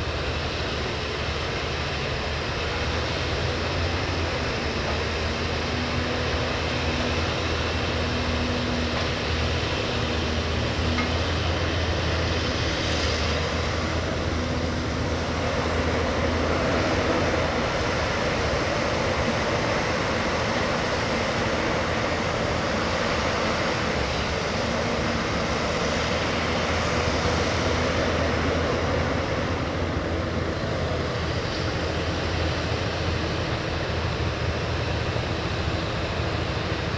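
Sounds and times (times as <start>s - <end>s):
diesel engine droning: 0.0s - 36.9s.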